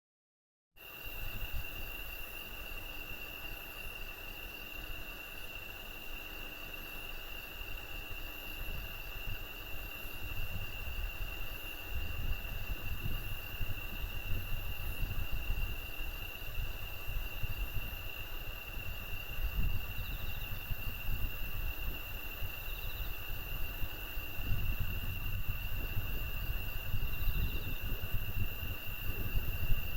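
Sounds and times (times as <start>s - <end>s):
insects trilling: 0.8s - 29.9s.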